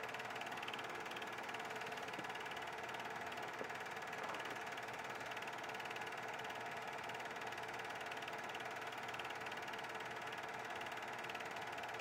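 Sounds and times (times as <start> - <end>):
film projector clattering: 0.0 - 12.0.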